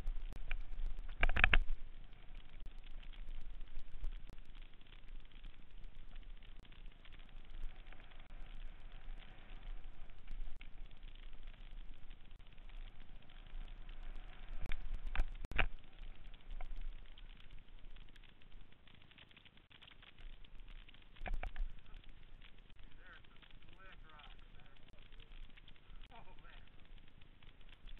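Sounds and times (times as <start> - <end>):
tyres crackling on dirt: 0.0 - 27.9.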